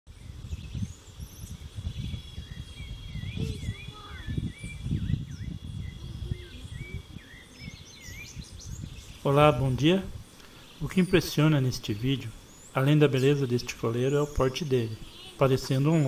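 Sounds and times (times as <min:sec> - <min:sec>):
small birds chirping: 0:00.1 - 0:16.0
high insect buzz: 0:00.2 - 0:16.0.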